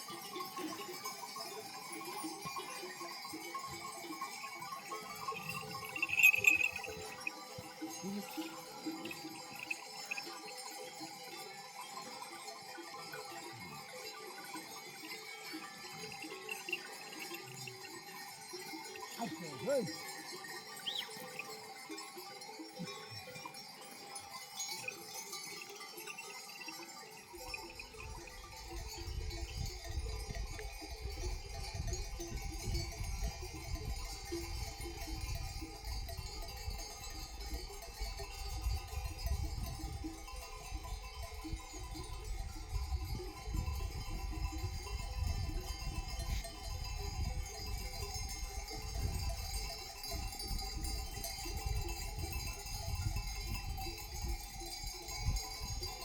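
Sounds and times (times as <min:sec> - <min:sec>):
sheep bells clinking: 0:00.0 - 0:56.0.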